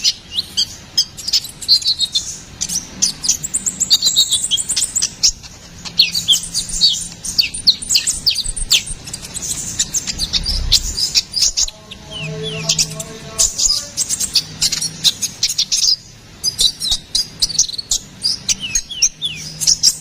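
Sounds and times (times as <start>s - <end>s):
sunbird singing: 0.0s - 20.0s.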